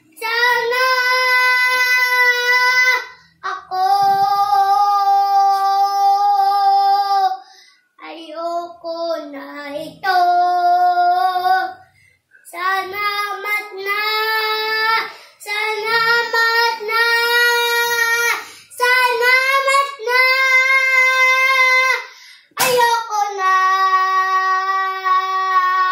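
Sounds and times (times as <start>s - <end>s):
boy singing unaccompanied: 0.0s - 7.4s, 8.0s - 25.9s.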